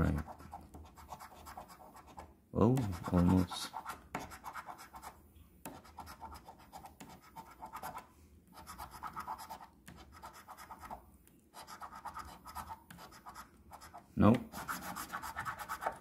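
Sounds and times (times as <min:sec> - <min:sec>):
coin scratching paper ticket: 0:00.0 - 0:02.2, 0:02.8 - 0:05.1, 0:05.7 - 0:08.0, 0:08.6 - 0:11.0, 0:11.6 - 0:16.0.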